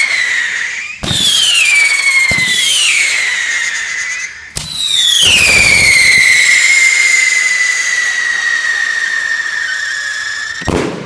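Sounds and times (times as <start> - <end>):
firework whistling: 0.0 - 11.0.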